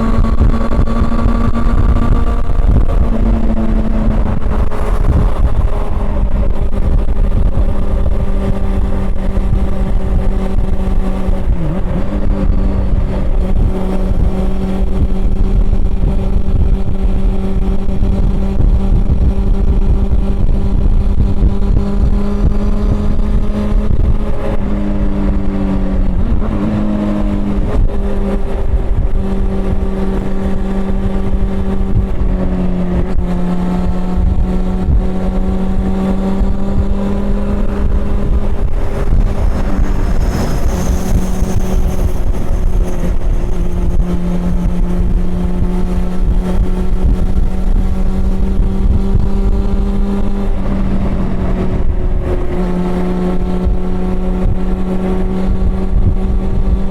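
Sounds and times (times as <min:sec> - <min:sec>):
motorcycle engine running: 0:00.0 - 0:56.9
road rumble: 0:00.0 - 0:56.9
wind noise: 0:00.0 - 0:56.9.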